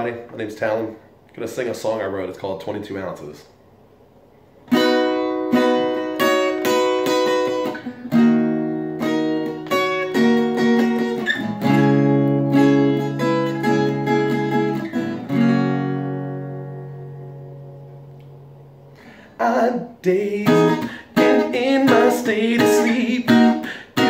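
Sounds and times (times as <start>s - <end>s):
acoustic guitar chords: 4.6s - 24.0s.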